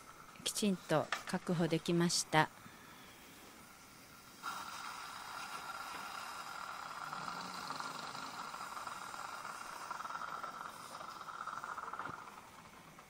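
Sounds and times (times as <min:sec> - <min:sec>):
steady fluttering hiss: 0:00.0 - 0:13.0.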